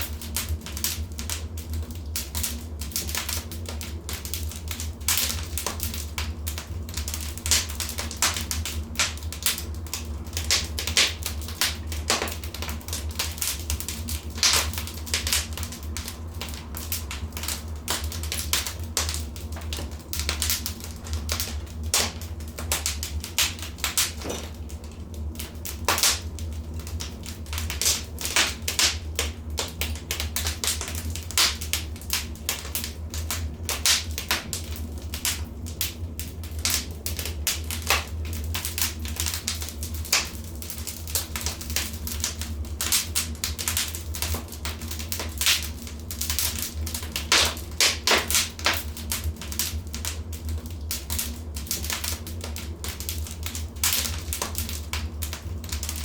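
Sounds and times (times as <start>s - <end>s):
steady low hum: 0.0s - 56.0s
wood fire crackling: 0.0s - 56.0s.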